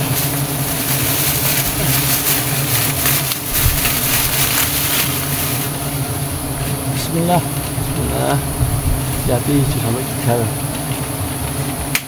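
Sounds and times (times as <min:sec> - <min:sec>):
plastic sheet rustling: 0:00.0 - 0:11.2
bees buzzing: 0:00.0 - 0:11.7.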